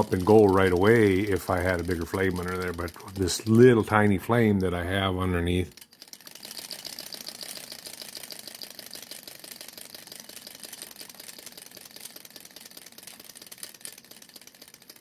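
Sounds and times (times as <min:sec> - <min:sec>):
model engine light clatter: 0:00.0 - 0:15.0.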